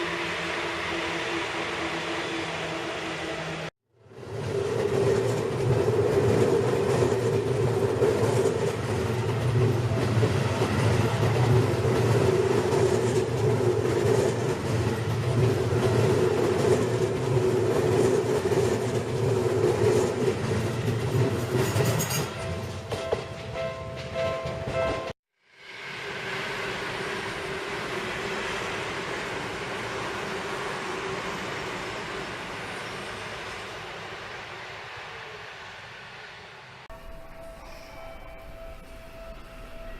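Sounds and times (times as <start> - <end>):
electric train passing: 0.0 - 39.9.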